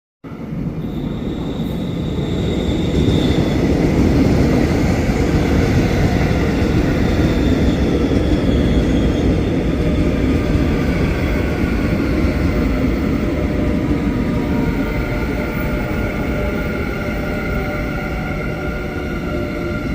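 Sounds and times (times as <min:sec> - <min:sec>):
train wheels rumbling: 0:00.5 - 0:19.9.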